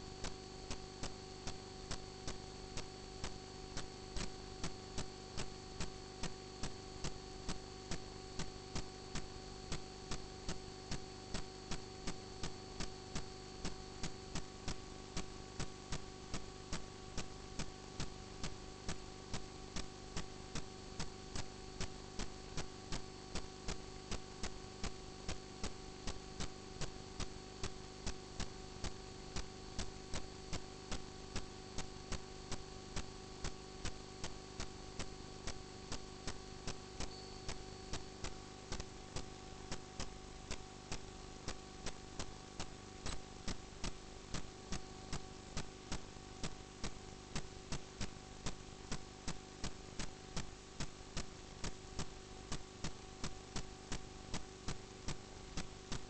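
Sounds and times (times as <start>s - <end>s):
electrical hum: 0.0s - 56.0s.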